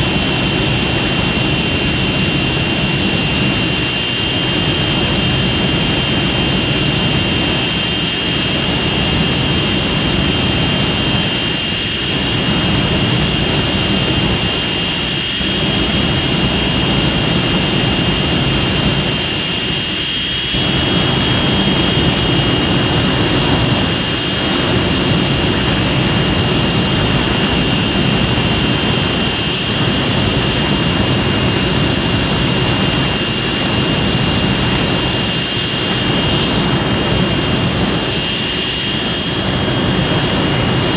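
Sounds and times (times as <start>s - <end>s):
jet engine high-pitched whine: 0.0s - 40.9s
jet engine roaring: 0.0s - 40.9s.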